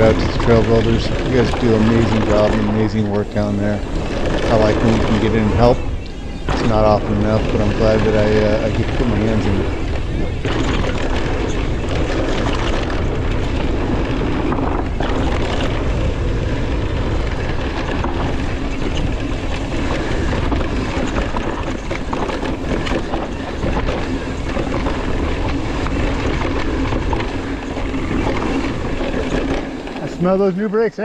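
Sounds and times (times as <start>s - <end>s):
clicks and knocks over bumps: 0.0s - 30.5s
bike rattling: 0.0s - 31.0s
tyres rumbling over dirt: 0.0s - 31.0s
wind rushing over microphone: 0.0s - 31.0s.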